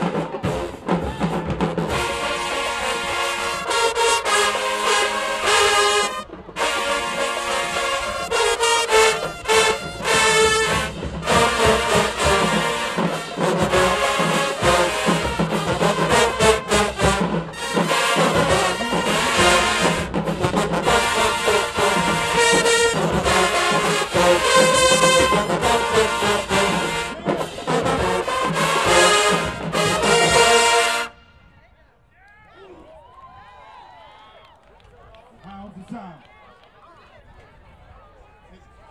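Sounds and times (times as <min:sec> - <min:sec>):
marching bass drums: 0:00.0 - 0:31.2
marching band brass: 0:00.0 - 0:31.6.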